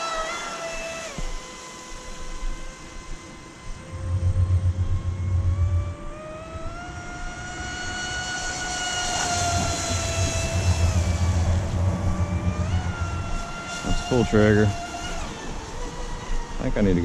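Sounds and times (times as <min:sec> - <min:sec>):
boat motor and propeller whining: 0:00.0 - 0:17.0
low rumbling: 0:03.0 - 0:17.0.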